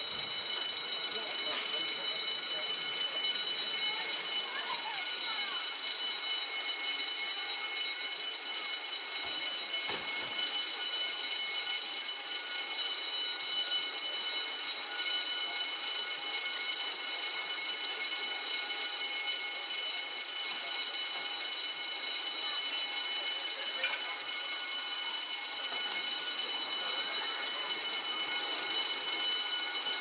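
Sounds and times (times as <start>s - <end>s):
fire alarm ringing: 0.0s - 30.0s.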